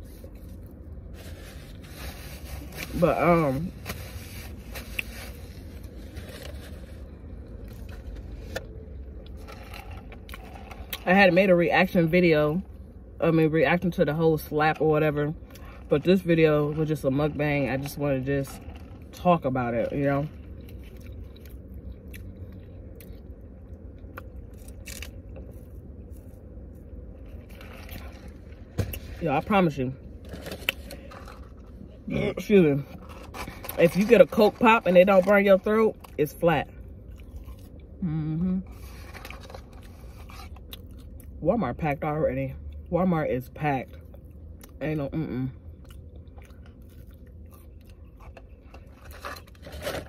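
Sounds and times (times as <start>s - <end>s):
low rumble inside car: 0.0s - 50.0s.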